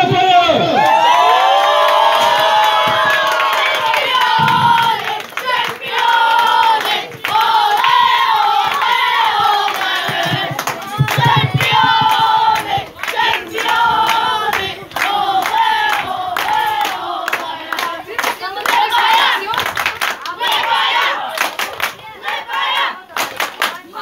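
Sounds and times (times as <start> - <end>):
people clapping: 0.8 - 24.0
boys chanting: 3.5 - 24.0.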